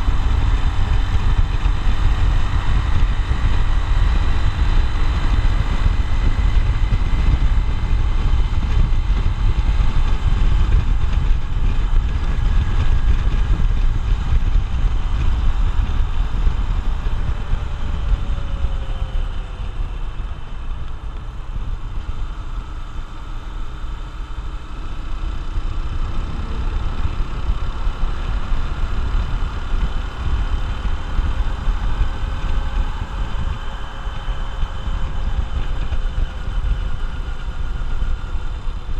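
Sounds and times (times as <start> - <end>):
motorcycle engine running: 0.0 - 38.9
wind rumbling on microphone: 0.0 - 38.9.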